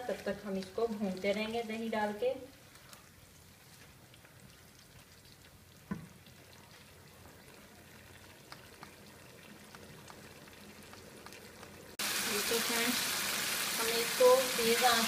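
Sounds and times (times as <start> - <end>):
curry frying in a pan: 0.0 - 15.0.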